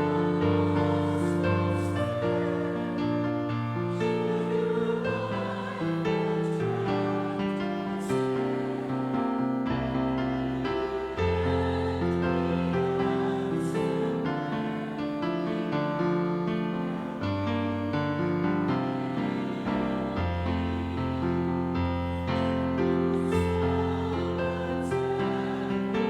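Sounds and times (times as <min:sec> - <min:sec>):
church keyboard playing slow chords: 0:00.0 - 0:26.0.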